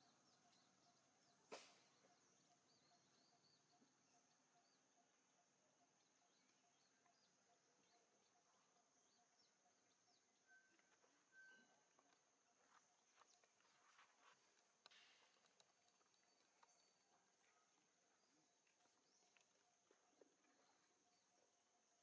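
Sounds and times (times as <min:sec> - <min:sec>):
faint high chirps: 0:00.0 - 0:22.0.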